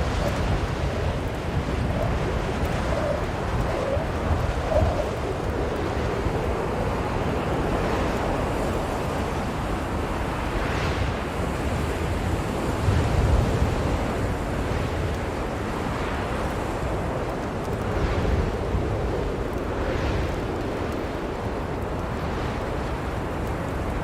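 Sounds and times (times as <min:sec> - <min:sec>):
blizzard wind gusts: 0:00.0 - 0:24.0.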